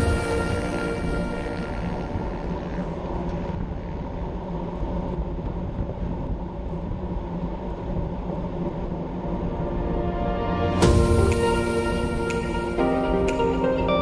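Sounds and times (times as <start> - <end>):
road noise: 0.0 - 14.0
wind rumble on microphone: 0.0 - 14.0.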